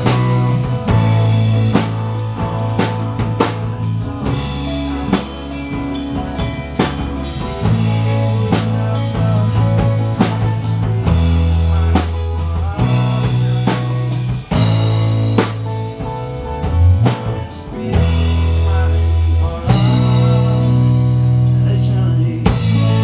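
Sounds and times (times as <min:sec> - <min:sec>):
bass guitar notes: 0:00.0 - 0:23.0
drum kit: 0:00.0 - 0:23.0
strummed acoustic guitar: 0:00.0 - 0:23.0.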